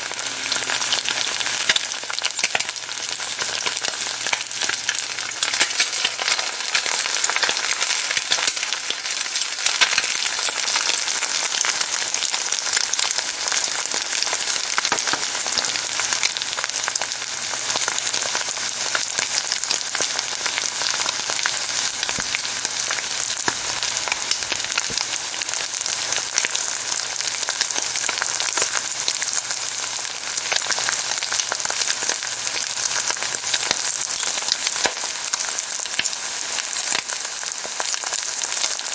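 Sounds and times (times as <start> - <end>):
egg sizzling in a pan: 0.0 - 38.9.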